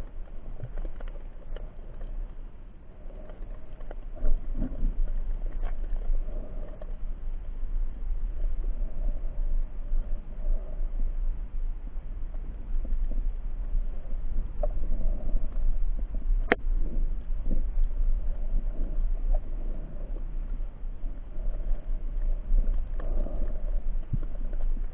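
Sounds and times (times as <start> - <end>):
underwater water rumble: 0.0 - 24.9.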